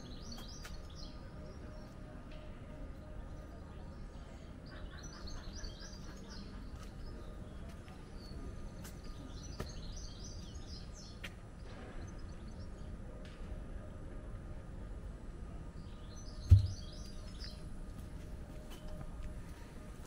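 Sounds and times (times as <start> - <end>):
low city rumble: 0.0 - 20.0.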